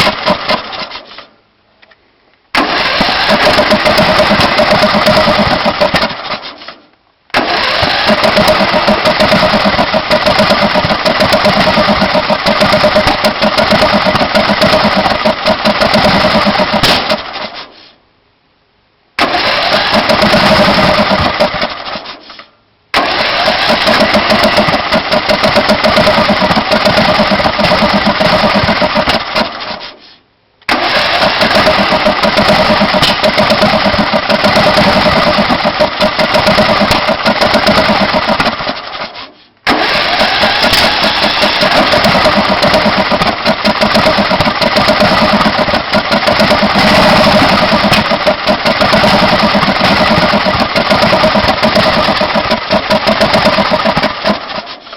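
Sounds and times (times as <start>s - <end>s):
engine cranking by electric starter: 0.0s - 1.3s, 2.5s - 17.8s, 19.2s - 30.0s, 30.6s - 54.9s.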